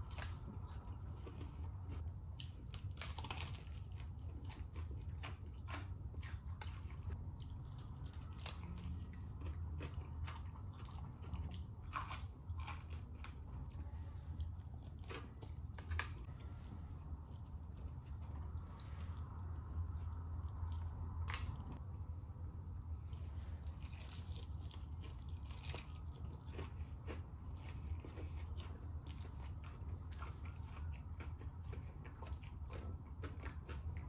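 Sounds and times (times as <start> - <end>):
chewing crunchy fried chicken: 0.0 - 34.0
steady low hum: 0.0 - 34.0.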